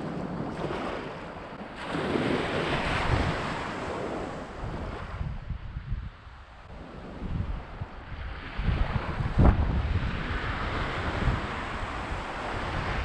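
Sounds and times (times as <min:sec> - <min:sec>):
small waves washing at shore: 0:00.0 - 0:13.0
wind buffeting microphone: 0:00.0 - 0:13.0.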